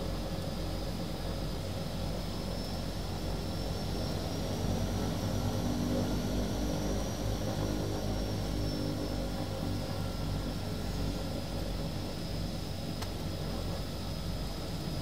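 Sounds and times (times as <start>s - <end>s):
aircraft engines rumbling: 0.0s - 15.0s
faint high engine whine: 0.0s - 15.0s.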